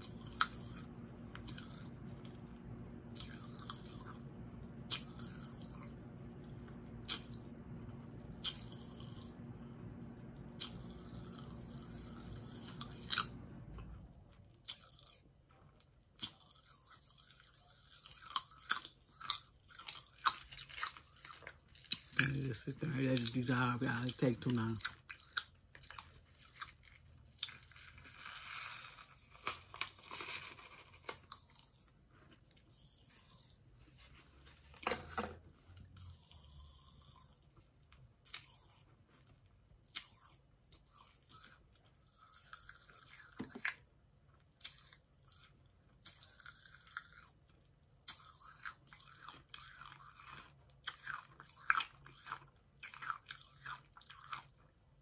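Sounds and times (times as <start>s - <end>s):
person chewing crunchy candy: 0.0s - 33.8s, 35.8s - 55.0s.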